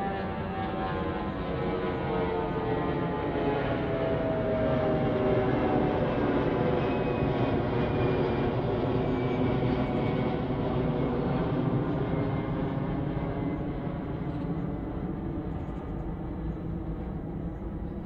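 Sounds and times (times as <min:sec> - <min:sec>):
airplane engine rumble: 0:00.0 - 0:18.0.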